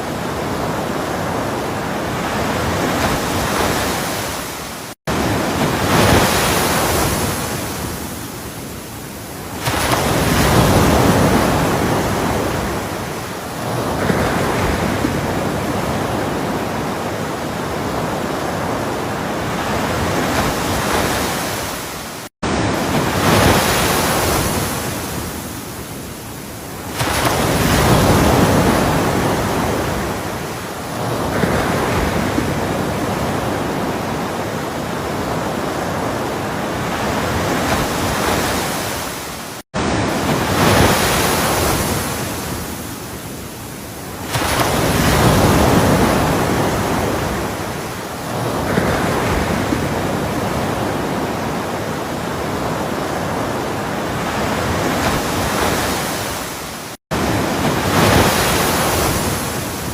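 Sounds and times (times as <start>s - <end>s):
ocean surf waves breaking: 0.0s - 59.9s.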